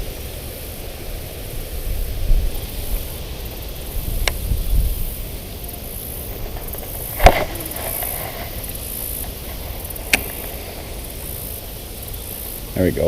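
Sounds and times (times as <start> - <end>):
wind hiss on microphone: 0.0 - 13.0.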